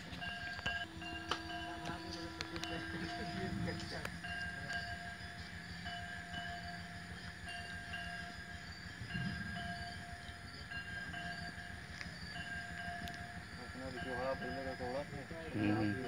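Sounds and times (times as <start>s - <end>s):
steady low rumble: 0.0s - 15.6s
low murmur: 0.0s - 16.0s.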